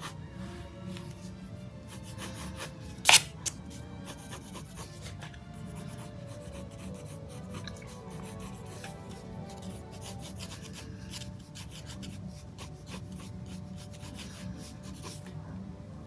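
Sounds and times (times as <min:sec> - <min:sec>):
pen scratching on paper: 0:01.9 - 0:15.3.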